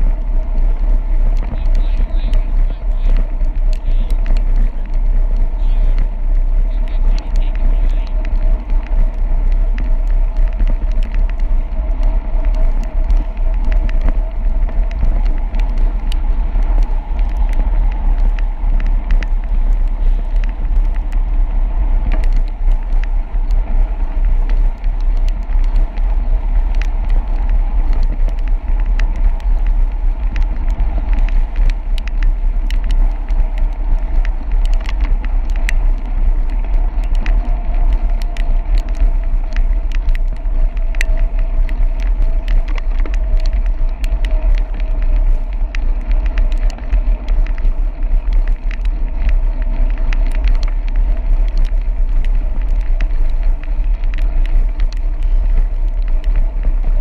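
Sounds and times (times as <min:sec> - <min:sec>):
small clicks and knocks: 0:00.0 - 0:57.0
wind buffeting camera: 0:00.0 - 0:57.0.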